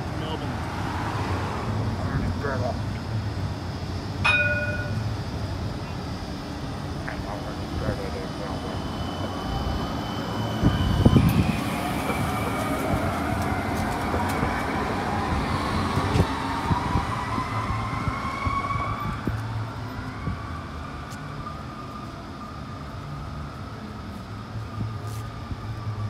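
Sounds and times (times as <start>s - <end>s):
tram motors whining: 0.0s - 26.0s.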